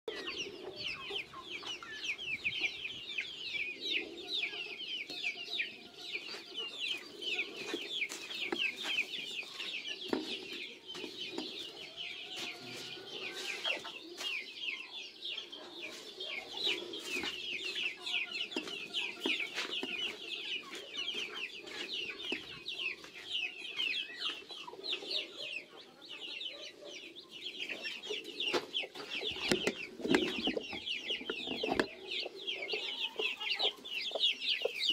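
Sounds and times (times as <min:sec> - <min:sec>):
chickens clucking: 0:00.1 - 0:34.9.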